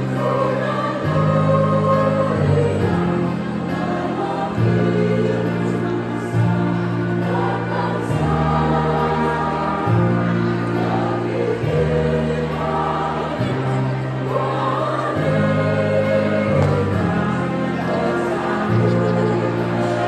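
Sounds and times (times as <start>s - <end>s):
low held accompaniment chords: 0.0s - 20.0s
women's choir singing: 0.0s - 20.0s.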